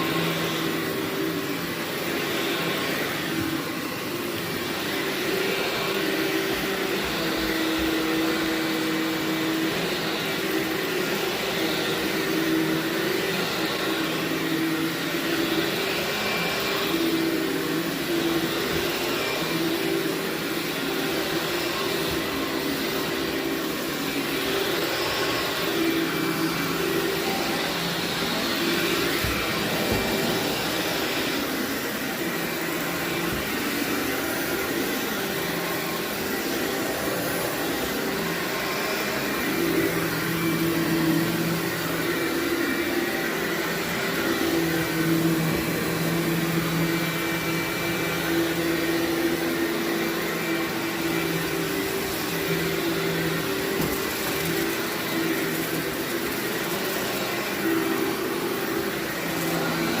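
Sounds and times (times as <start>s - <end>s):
vacuum cleaner on carpet: 0.0s - 60.0s.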